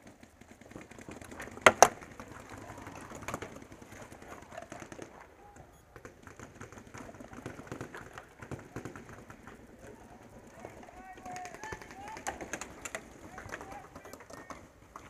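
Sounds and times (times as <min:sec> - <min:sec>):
faint clicks and rustling: 0:00.0 - 0:15.0.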